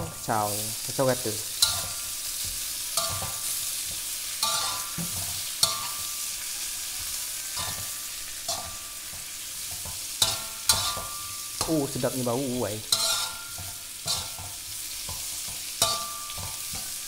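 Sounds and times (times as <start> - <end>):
food sizzling in oil: 0.0 - 17.0
metal spatula scraping wok: 0.0 - 17.0
spatula clanking on wok: 1.5 - 17.0.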